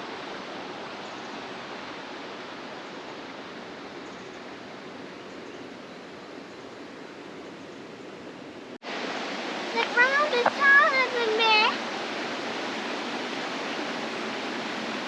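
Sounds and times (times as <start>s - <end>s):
flowing water rushing: 0.0s - 7.9s, 8.5s - 15.0s.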